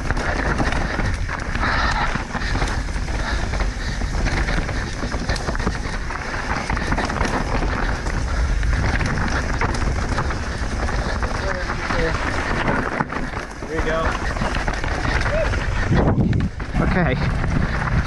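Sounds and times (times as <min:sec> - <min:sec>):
bike rattling over rough ground: 0:00.0 - 0:18.0
tyres on dirt and rock: 0:00.0 - 0:18.0
wind buffeting microphone: 0:00.0 - 0:18.0.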